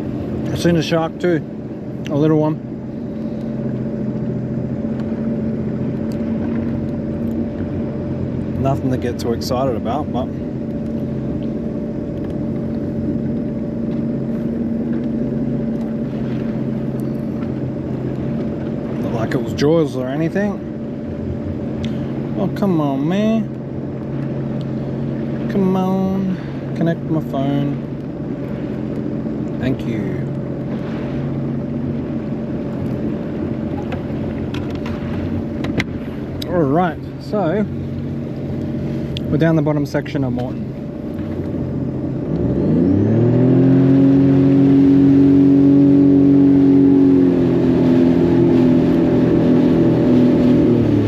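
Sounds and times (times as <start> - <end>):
jet ski engine running: 0.0 - 51.0
water rushing: 0.0 - 51.0
wind: 0.0 - 51.0.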